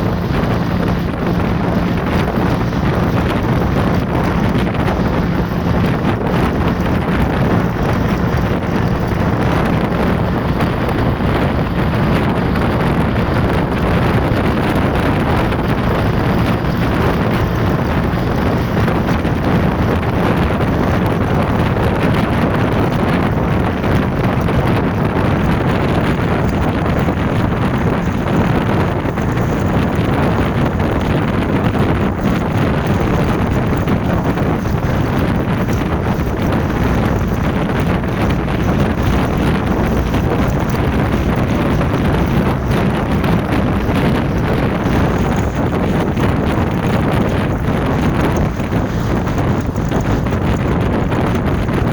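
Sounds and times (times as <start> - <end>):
low engine hum: 0.0 - 51.9
wind buffeting microphone: 0.0 - 51.9.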